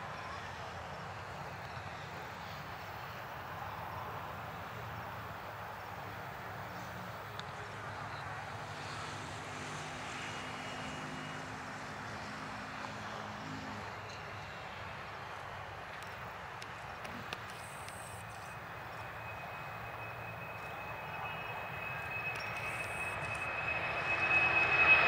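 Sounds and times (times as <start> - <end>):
distant jet engines at takeoff: 0.0 - 25.0.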